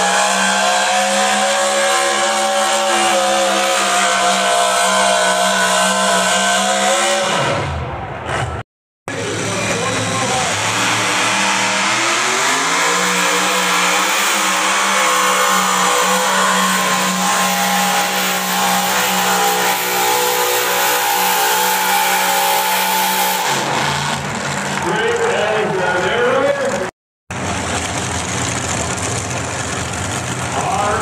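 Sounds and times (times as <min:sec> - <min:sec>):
engine at full throttle: 0:00.0 - 0:31.0.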